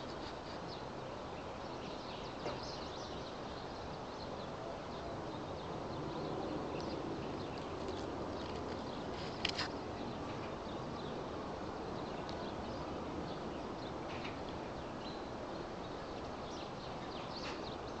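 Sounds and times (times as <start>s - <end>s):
background city hum: 0.0s - 18.0s
small birds chirping: 0.0s - 18.0s.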